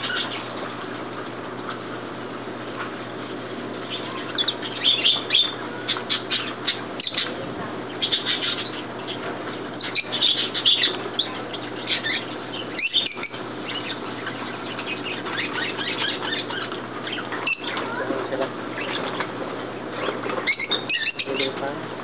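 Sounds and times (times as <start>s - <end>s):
birds chirping and calling: 0.0s - 1.9s, 3.2s - 21.9s.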